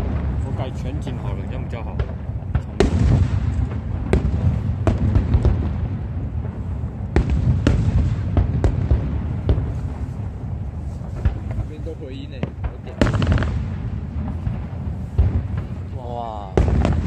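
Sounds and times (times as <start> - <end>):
fireworks bangs: 0.0 - 17.0
low rumble: 0.0 - 17.0.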